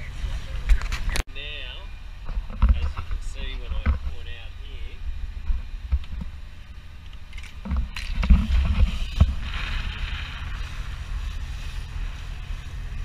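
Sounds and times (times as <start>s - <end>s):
water rushing along hull: 2.4s - 13.0s.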